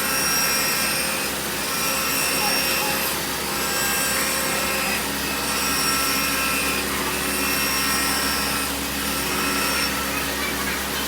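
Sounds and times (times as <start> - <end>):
milling machine noise: 0.0 - 11.0.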